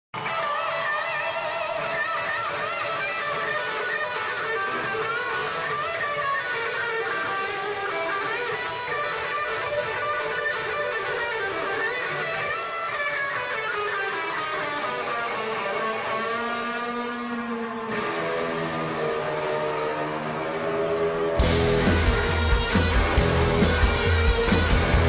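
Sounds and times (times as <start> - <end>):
electric guitar rock riff: 0.2 - 25.0.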